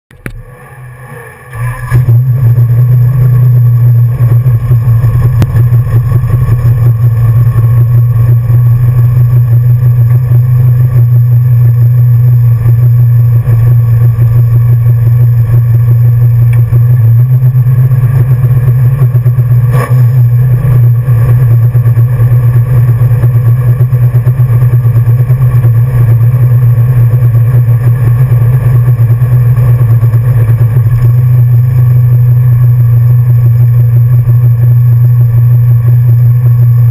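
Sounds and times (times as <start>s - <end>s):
car engine idling: 0.1s - 36.9s.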